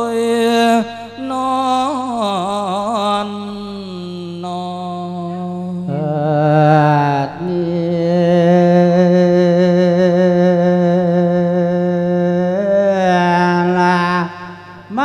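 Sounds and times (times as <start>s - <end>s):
person chanting a long vowel: 0.0s - 15.0s.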